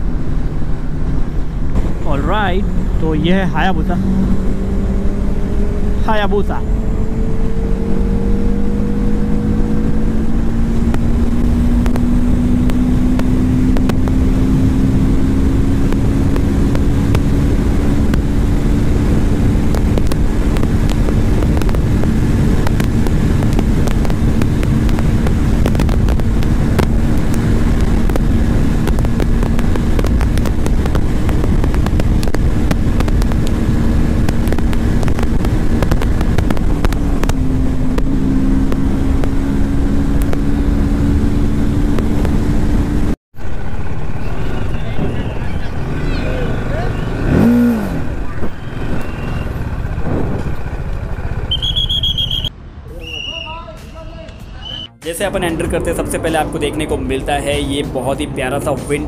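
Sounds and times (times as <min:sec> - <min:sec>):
motorcycle engine running: 0:00.0 - 0:52.5
wind and road noise: 0:00.0 - 0:59.0.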